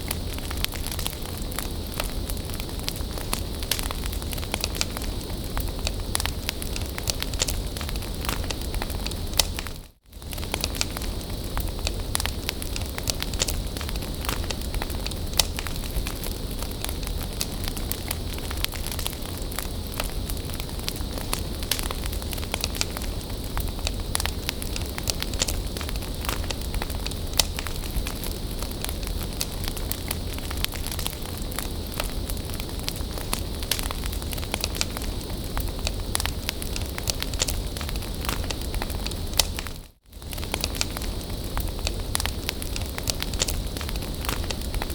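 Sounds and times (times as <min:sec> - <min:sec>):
bonfire crackling and popping: 0:00.0 - 0:44.9.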